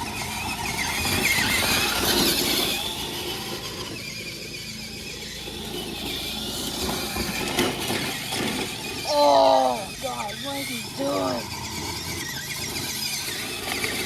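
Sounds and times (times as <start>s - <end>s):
rc truck motor whine: 0.0s - 14.0s
toy car scraping: 0.0s - 14.0s.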